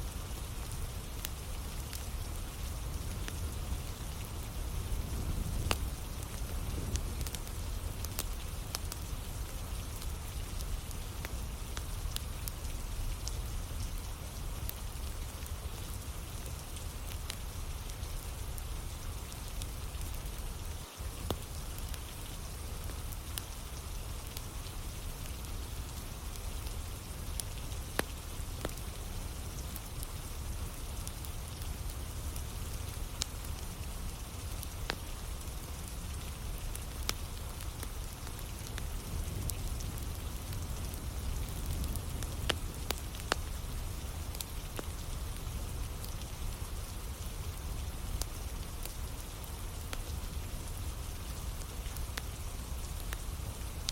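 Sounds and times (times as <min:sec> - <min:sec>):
steady rainfall: 0:00.0 - 0:53.9
wood fire popping and crackling: 0:00.1 - 0:53.9.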